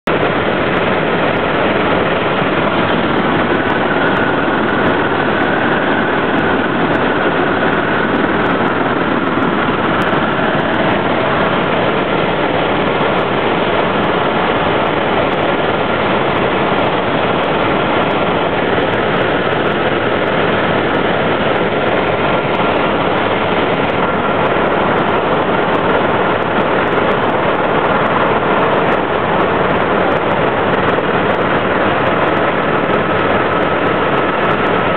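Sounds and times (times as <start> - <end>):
helicopter engine and rotor noise: 0.0 - 34.9.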